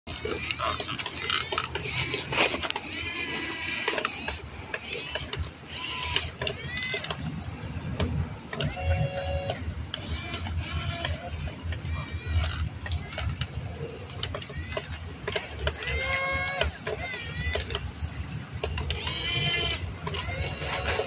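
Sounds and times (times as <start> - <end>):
toy electric motors whining: 0.1 - 21.0.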